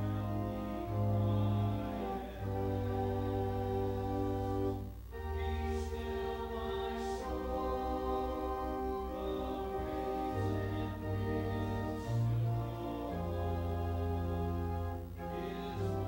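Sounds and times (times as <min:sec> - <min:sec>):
congregation singing a hymn: 0:00.0 - 0:16.0
organ chords: 0:00.0 - 0:16.0.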